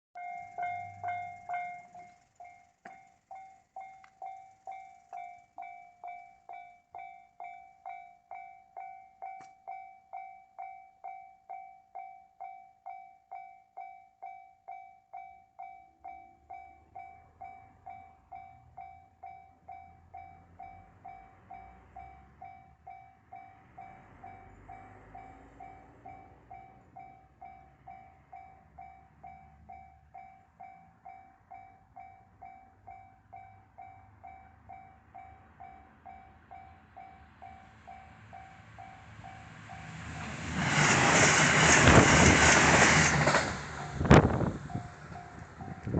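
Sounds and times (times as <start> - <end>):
diesel railcar passing: 0.2 - 12.1, 15.2 - 45.9
level-crossing alarm bell ringing: 0.2 - 40.5, 43.7 - 45.9.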